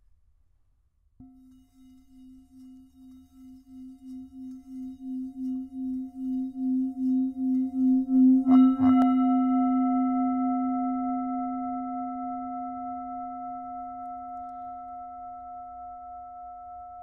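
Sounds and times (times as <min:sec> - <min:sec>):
singing bowl ringing: 0:01.2 - 0:17.0.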